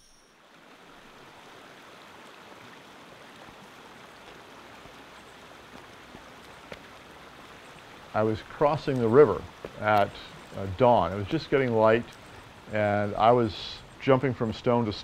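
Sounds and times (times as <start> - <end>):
stream splashing over boulders: 0.3 - 15.0.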